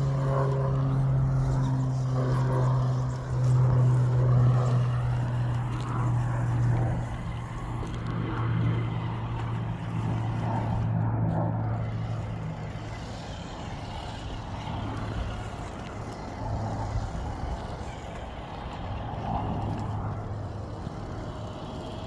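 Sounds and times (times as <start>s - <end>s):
toy truck electric motor humming: 0.0s - 22.0s.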